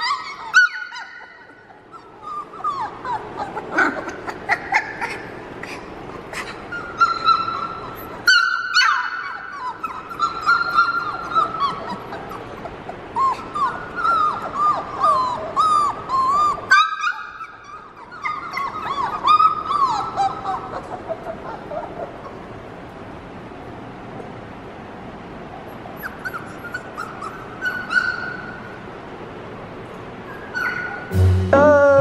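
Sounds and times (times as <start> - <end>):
puppies whining: 0.0 - 23.5, 25.4 - 29.1, 29.9 - 32.0.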